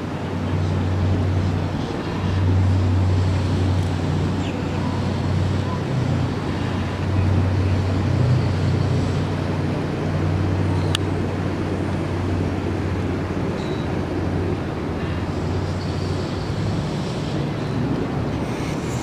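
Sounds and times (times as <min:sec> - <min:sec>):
outboard engine droning: 0:00.0 - 0:19.0.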